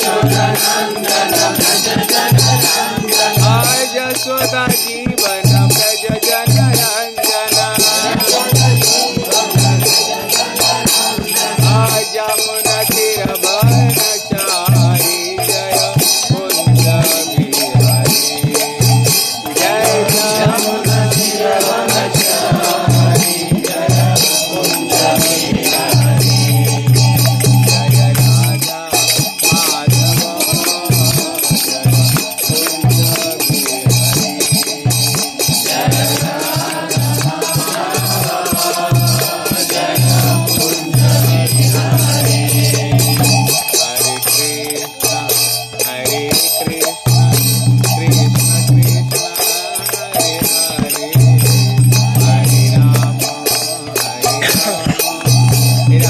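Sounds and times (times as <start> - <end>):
devotional chanting: 0.0 - 56.0
hand cymbals jingling: 0.0 - 56.0.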